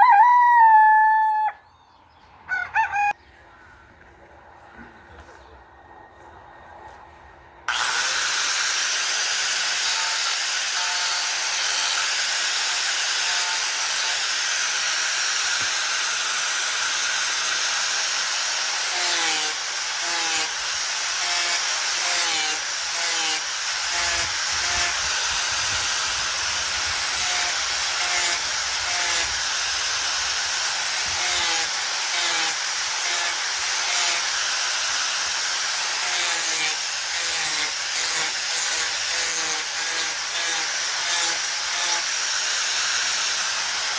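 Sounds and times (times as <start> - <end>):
power tool grinding wood: 7.7 - 43.9.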